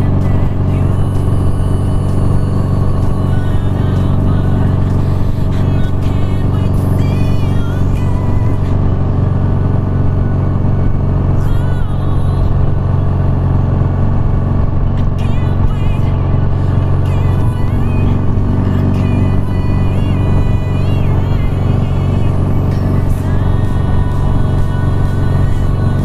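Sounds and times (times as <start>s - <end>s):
motorcycle engine running: 0.0s - 26.0s
pop electronic music with singing: 0.0s - 26.0s.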